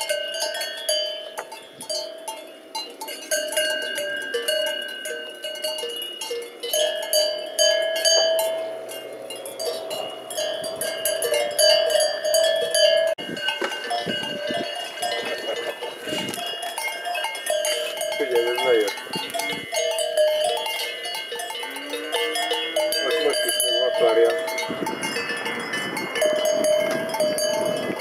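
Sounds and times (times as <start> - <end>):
cowbells clanking: 0.0 - 28.0.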